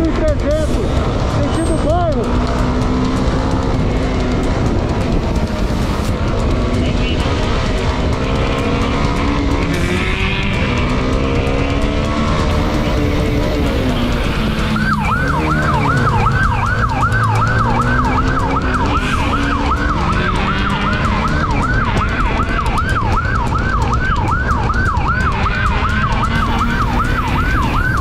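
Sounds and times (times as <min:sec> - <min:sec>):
vehicle engine running: 0:00.0 - 0:28.0
police siren yelping: 0:04.4 - 0:28.0.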